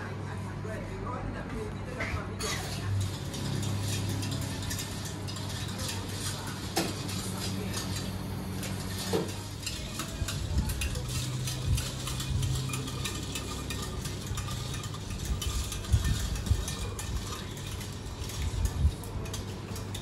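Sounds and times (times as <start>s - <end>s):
utensil scraping metal cup: 2.4s - 20.0s.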